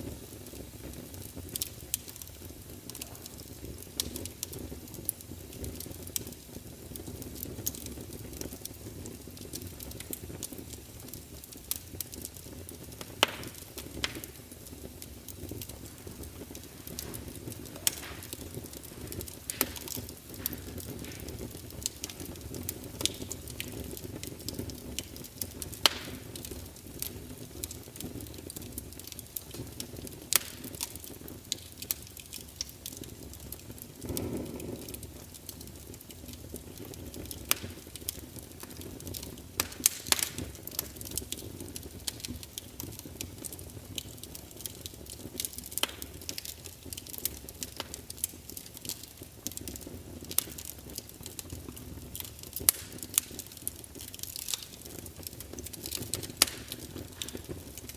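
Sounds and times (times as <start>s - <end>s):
crackles of burning wood: 0.0s - 57.9s
sharp pops from burning logs: 0.0s - 57.9s
wood fire burning: 0.0s - 57.9s.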